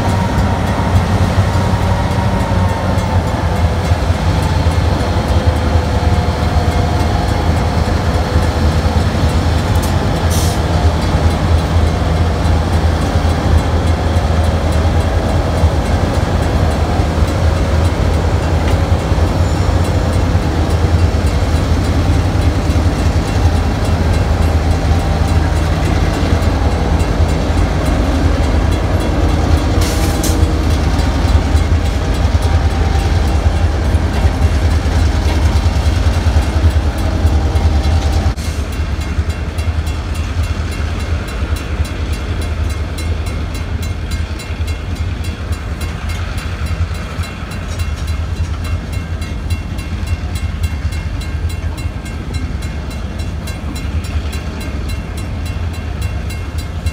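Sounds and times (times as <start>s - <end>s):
crossing warning bell ticking: 0.0s - 56.9s
diesel locomotive engine rumble: 0.0s - 56.9s
freight cars rolling on rails: 0.0s - 56.9s.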